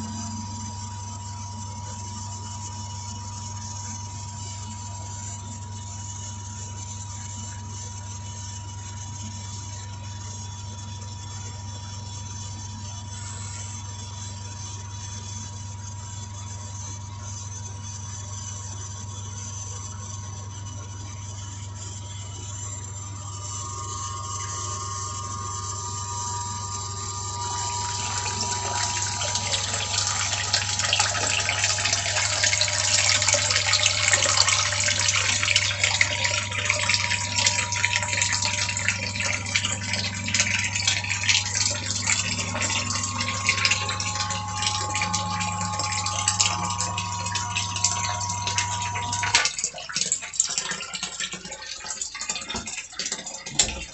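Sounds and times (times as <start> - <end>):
sump pump motor hum: 0.0 - 53.9.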